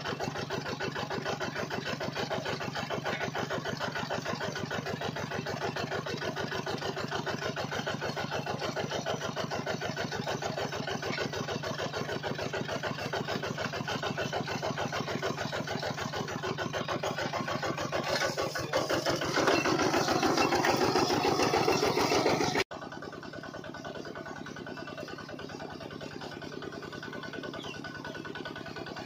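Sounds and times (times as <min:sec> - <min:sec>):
small diesel engine running: 0:00.0 - 0:29.0.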